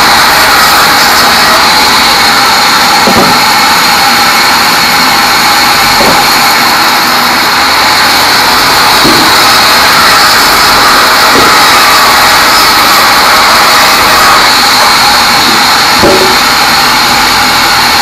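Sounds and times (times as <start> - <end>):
band saw hiss and whine: 0.0 - 18.0.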